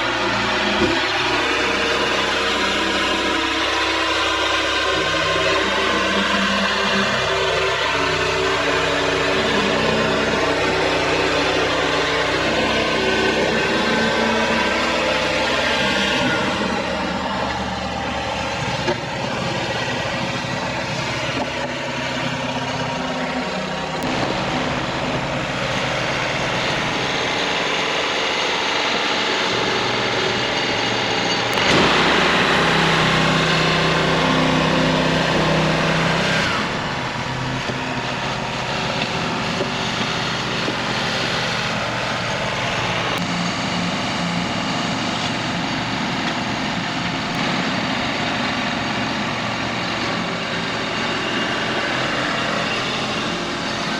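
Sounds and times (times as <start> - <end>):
sawmill gasoline engine running: 0.0 - 53.9.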